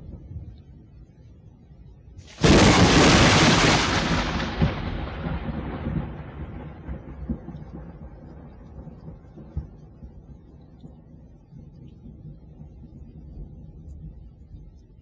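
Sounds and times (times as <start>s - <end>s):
thunder crack and rumble: 2.2s - 14.3s.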